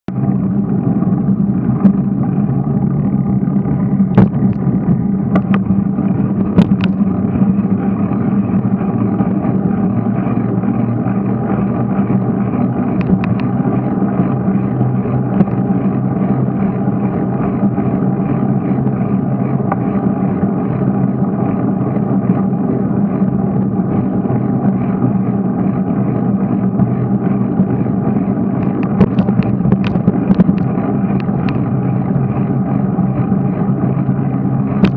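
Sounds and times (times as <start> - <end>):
wind and road vibration rumble: 0.0 - 34.9.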